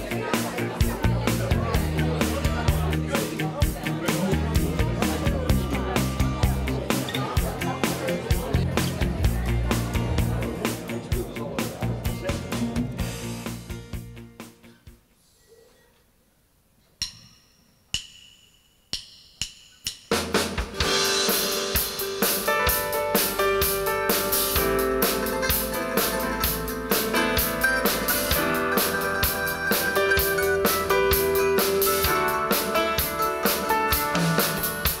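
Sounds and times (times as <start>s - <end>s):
live band playing: 0.0s - 14.5s, 20.3s - 35.0s
drum and cymbal hits: 0.0s - 15.0s, 17.0s - 35.0s.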